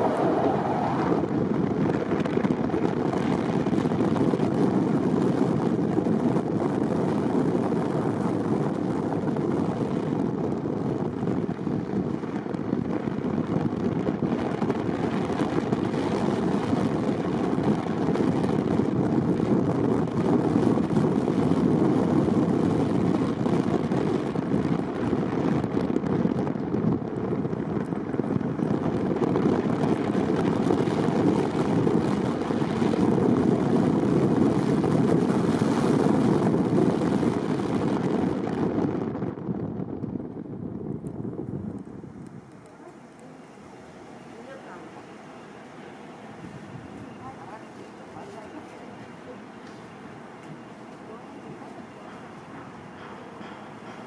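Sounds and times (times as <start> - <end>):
car road and tyre noise: 0.0 - 54.0.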